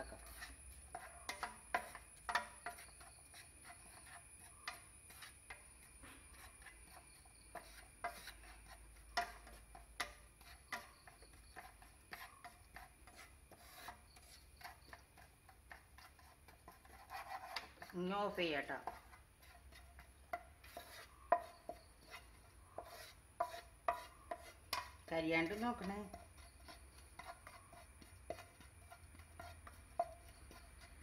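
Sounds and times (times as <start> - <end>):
spatula scraping frying pan: 0.0 - 31.0.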